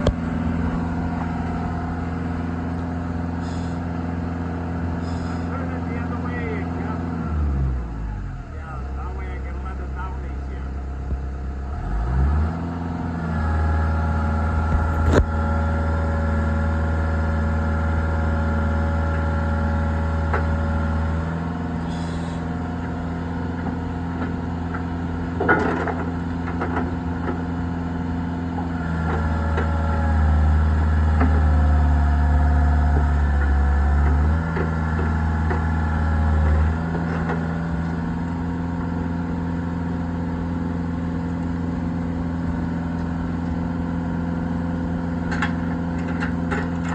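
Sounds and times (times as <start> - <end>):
skid steer engine running: 0.0 - 46.9.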